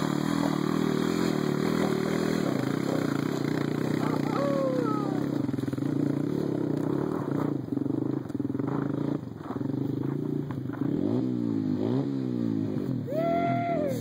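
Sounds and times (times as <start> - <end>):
small engine revving: 0.0 - 14.0.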